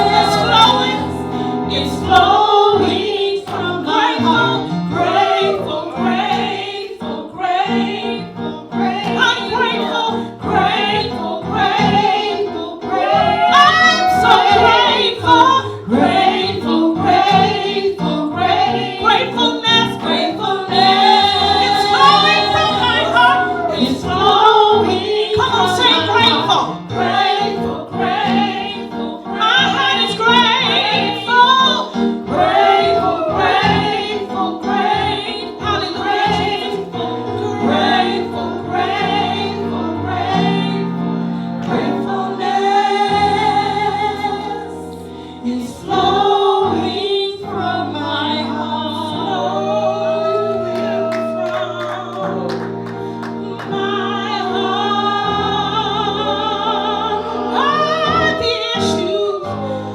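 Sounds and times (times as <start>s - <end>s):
gospel choir singing: 0.0s - 59.9s
instrumental backing music: 0.0s - 59.9s.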